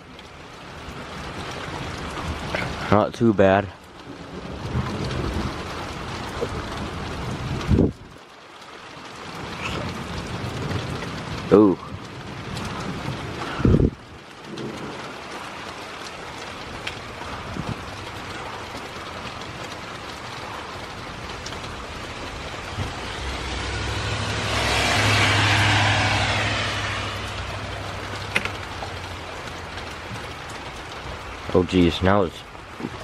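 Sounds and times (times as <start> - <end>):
steady rain falling: 0.0 - 33.0
vehicle passing on wet road: 0.0 - 33.0.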